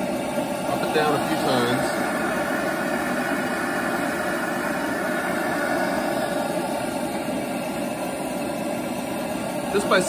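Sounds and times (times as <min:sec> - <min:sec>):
propane torch hissing: 0:00.0 - 0:10.0.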